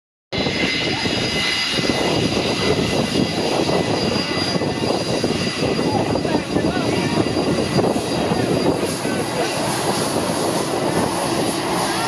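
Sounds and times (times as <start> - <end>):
jet engines roaring at takeoff: 0.4 - 12.0.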